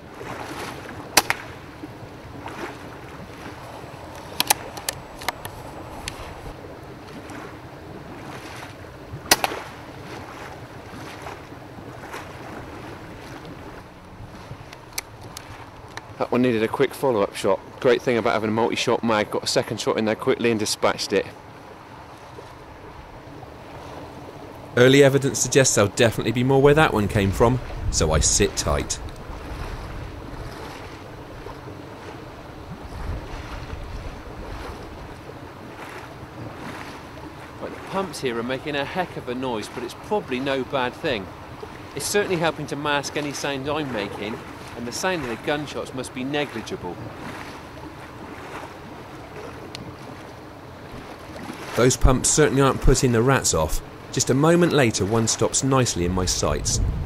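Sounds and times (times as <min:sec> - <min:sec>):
water pumps rushing: 0:00.0 - 0:56.9.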